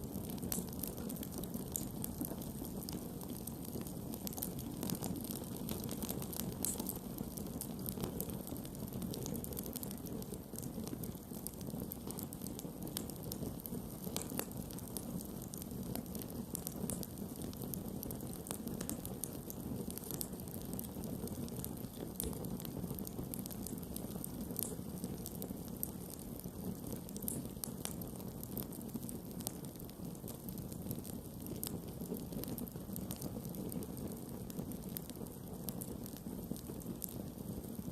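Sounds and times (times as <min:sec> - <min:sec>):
fire crackling and popping: 0:00.0 - 0:37.9.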